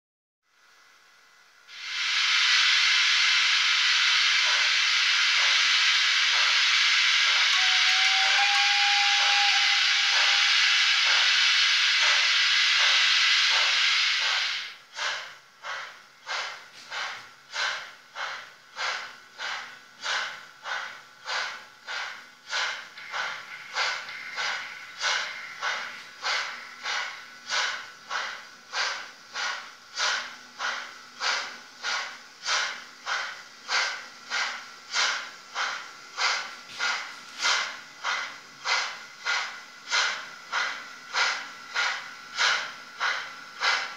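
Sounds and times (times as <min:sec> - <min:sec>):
model steam locomotive chuffing: 0:01.7 - 0:43.9
model steam locomotive hissing: 0:01.7 - 0:43.9.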